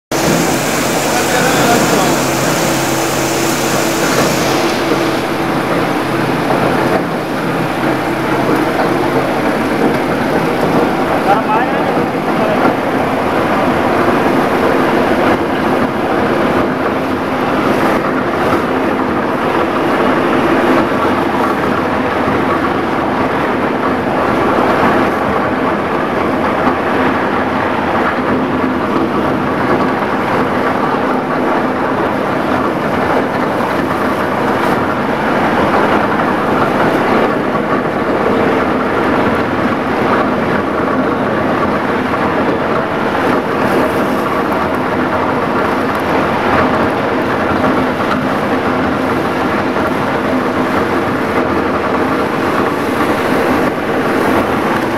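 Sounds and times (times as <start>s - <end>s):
faint machine hum: 0.1s - 54.9s
plastic shredding machine churning: 0.1s - 54.9s.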